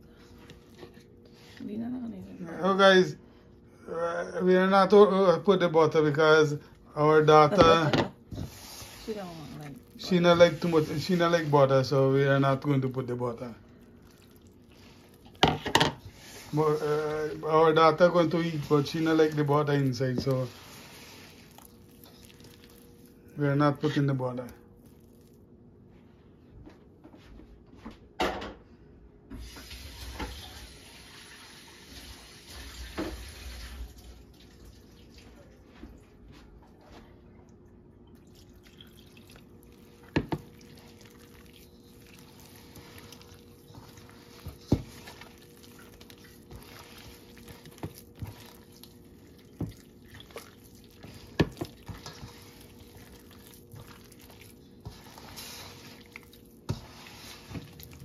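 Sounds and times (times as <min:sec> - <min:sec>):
water running: 0:04.5 - 0:25.4, 0:29.3 - 0:36.0, 0:38.0 - 0:58.0.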